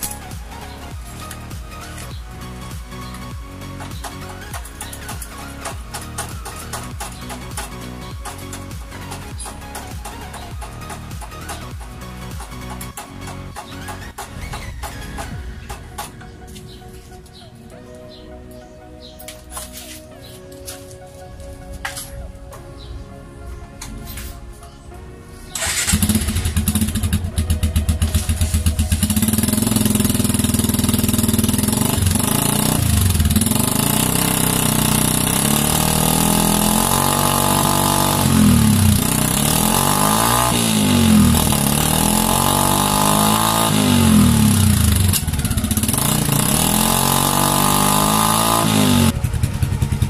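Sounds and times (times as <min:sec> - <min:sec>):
motorcycle engine revving: 0:00.0 - 0:16.0, 0:25.5 - 0:50.0.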